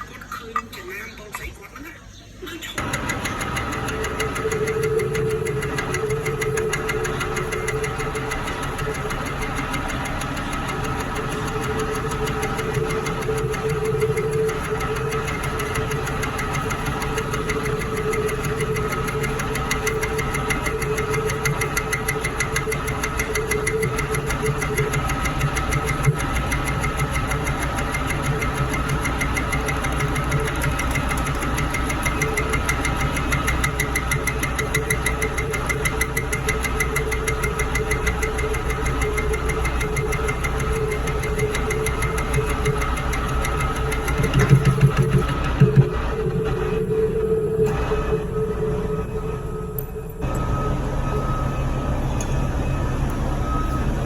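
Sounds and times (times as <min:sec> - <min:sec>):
metal lathe pulsing: 0:02.8 - 0:50.5.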